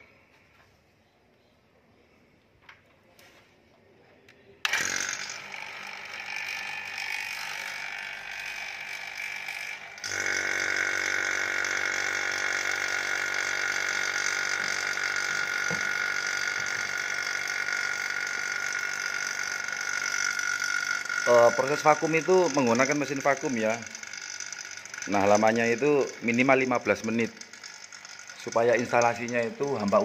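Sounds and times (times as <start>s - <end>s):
vacuum pump whining: 4.6s - 30.0s.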